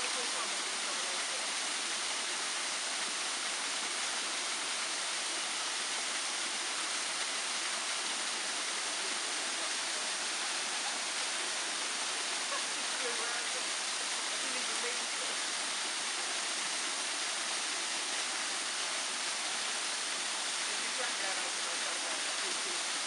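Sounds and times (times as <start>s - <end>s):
small waterfall rushing: 0.0s - 23.0s.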